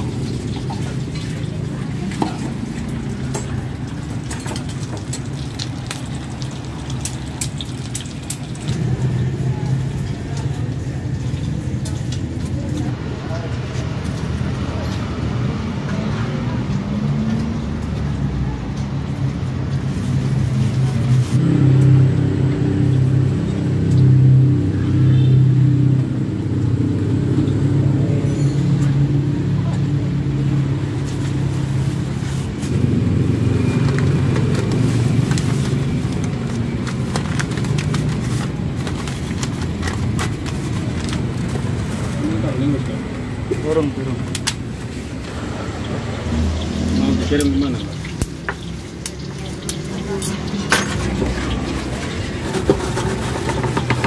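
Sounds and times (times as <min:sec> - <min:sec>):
road traffic rumble: 0:00.0 - 0:54.0
vehicle engine humming: 0:00.0 - 0:54.0.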